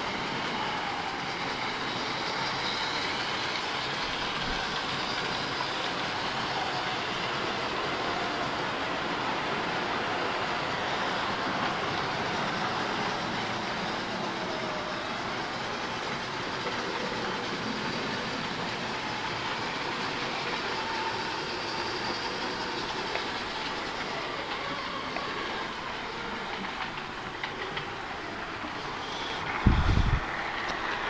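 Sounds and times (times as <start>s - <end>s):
model trains whirring on track: 0.0s - 31.0s.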